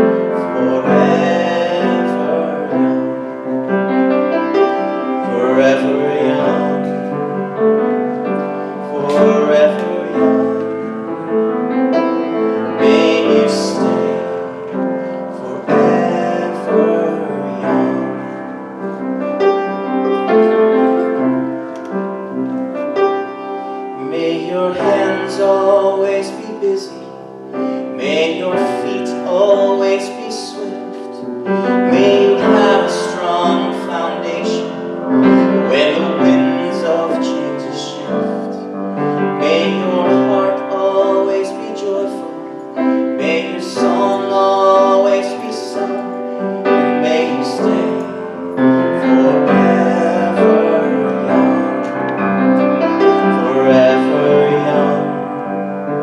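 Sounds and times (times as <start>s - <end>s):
person singing: 0.0s - 56.0s
piano accompaniment: 0.0s - 56.0s.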